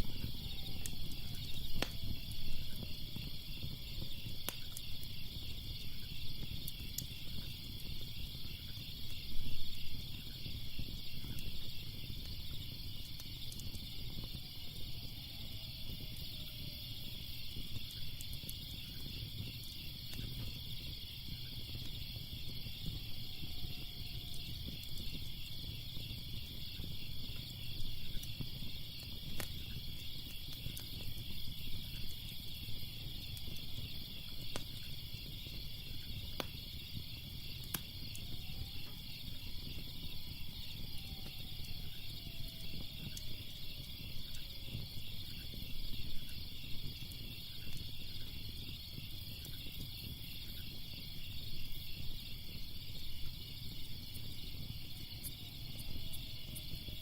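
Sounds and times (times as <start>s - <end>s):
crickets chirping: 0.0s - 57.0s
fire crackling: 0.0s - 57.0s.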